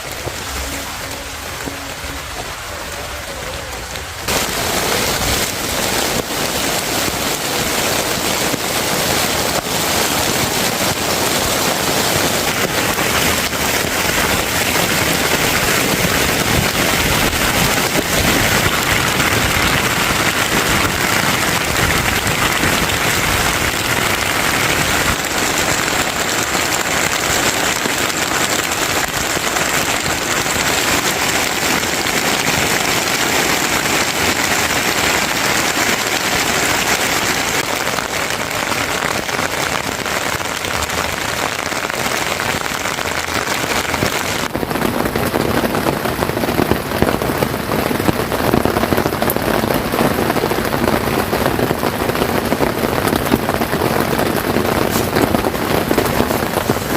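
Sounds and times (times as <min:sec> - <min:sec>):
heavy rain hissing: 0:00.0 - 0:56.9.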